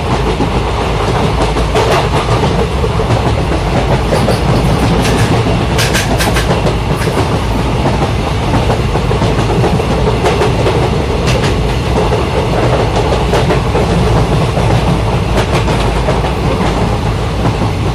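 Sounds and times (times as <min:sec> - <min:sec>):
train wheels rumbling on rails: 0:00.0 - 0:17.9
wheels clacking over rail joints: 0:00.1 - 0:17.9.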